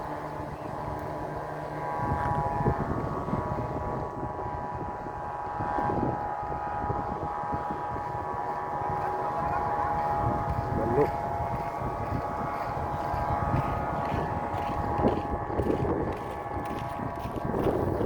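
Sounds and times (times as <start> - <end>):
kite flutes droning: 0.0 - 18.0
wind buffeting microphone: 0.0 - 18.0.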